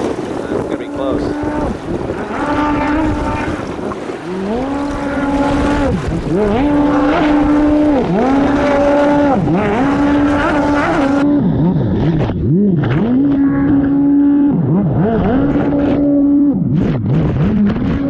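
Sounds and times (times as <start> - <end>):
jet ski engine revving: 0.0 - 18.0.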